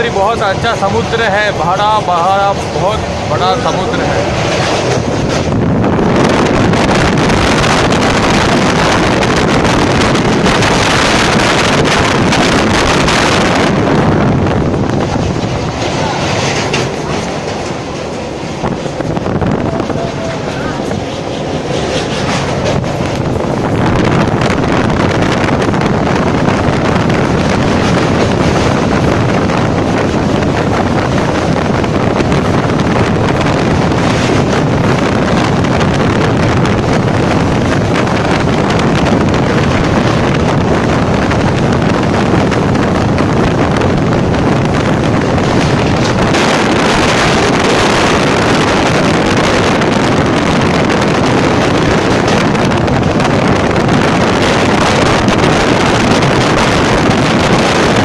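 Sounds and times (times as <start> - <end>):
train running over bridge: 0.0 - 58.0
wind buffeting microphone: 0.0 - 58.0.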